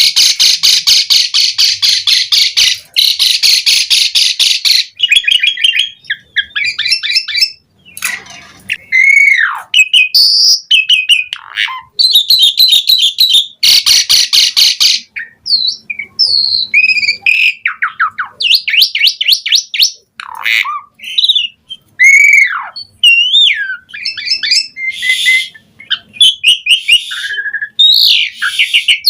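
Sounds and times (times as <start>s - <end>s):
starling singing: 0.0s - 29.0s.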